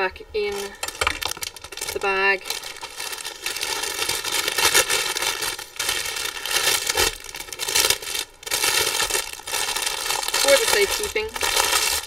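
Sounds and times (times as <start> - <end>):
plastic bags crinkling: 0.5 - 12.0.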